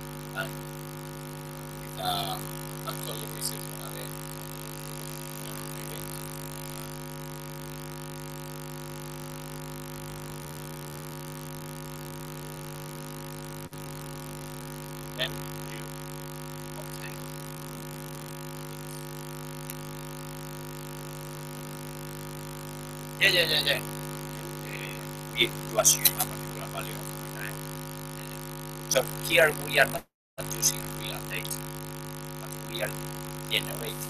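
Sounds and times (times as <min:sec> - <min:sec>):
electrical hum and buzz: 0:00.0 - 0:34.0.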